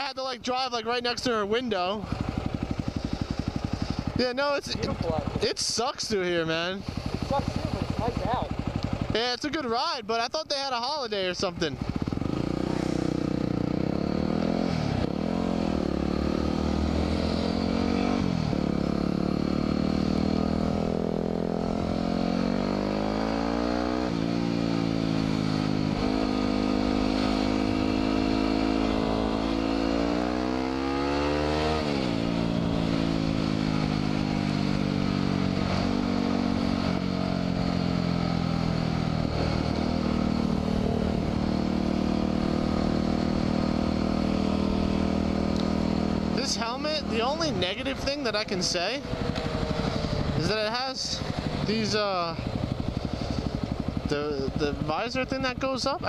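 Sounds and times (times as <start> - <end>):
motorcycle engine revving: 0.6 - 10.0, 10.6 - 56.0.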